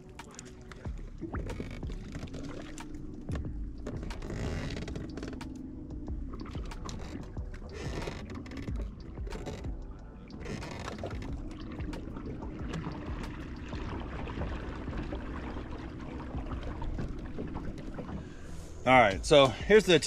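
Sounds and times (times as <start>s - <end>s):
small waves lapping against boat hull: 0.0s - 20.0s.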